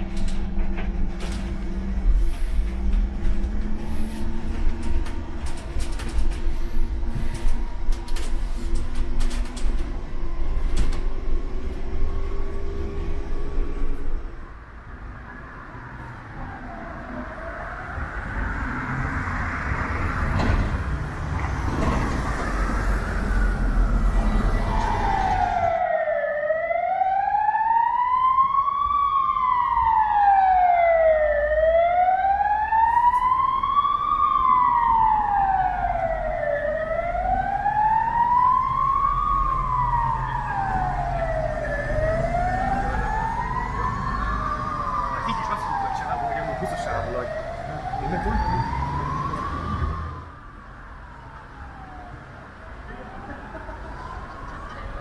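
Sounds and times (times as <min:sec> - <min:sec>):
emergency siren wailing: 0:00.0 - 0:55.0
low traffic rumble: 0:00.0 - 0:55.0.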